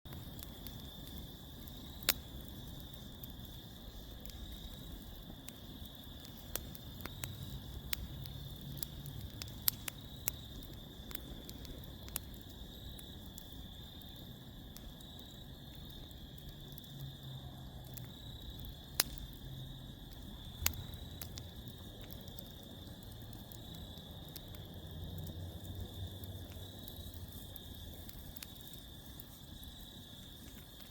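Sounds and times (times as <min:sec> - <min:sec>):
wood fire crackling and popping: 0:00.0 - 0:30.9
crickets chirping: 0:00.1 - 0:30.9.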